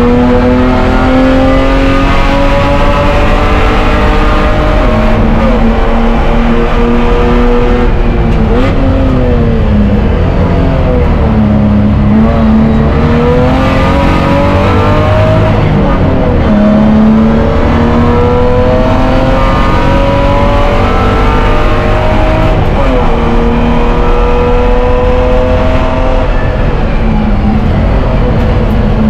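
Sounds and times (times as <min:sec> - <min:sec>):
race car engine at full throttle: 0:00.0 - 0:29.0
road and drivetrain rumble: 0:00.0 - 0:29.0.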